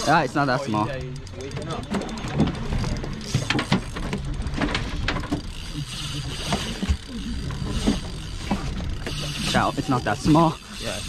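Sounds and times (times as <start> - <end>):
fishing reel clicking: 0.0 - 11.0.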